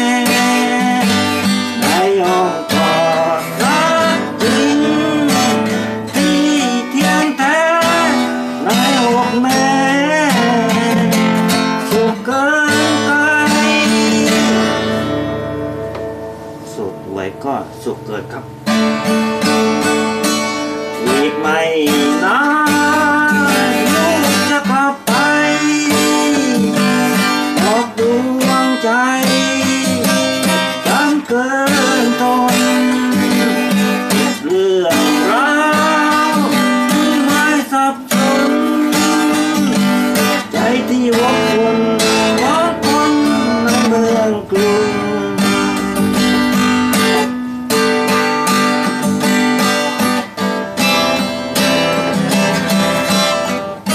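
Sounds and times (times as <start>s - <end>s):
acoustic guitar strummed and picked: 0.0s - 53.9s.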